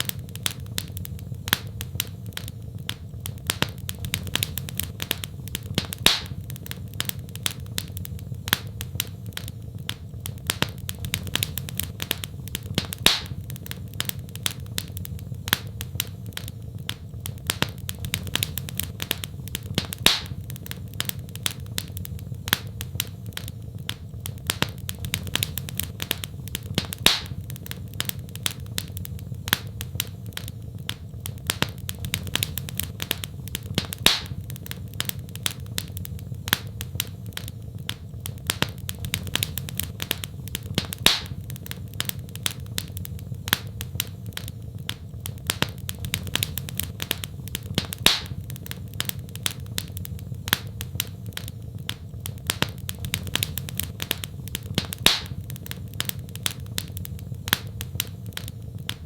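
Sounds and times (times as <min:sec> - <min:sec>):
fire crackling: 0:00.0 - 0:59.0
fire popping: 0:00.0 - 0:59.0
low rumble of flames: 0:00.0 - 0:59.0.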